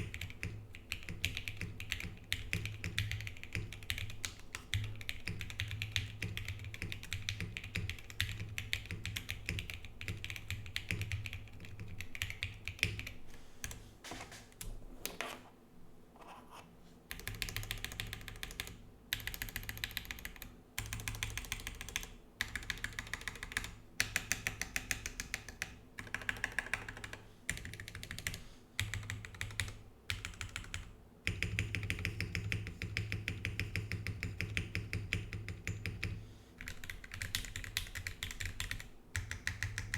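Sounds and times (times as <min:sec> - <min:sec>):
mechanical keyboard typing: 0:00.0 - 0:13.8, 0:17.1 - 0:39.9.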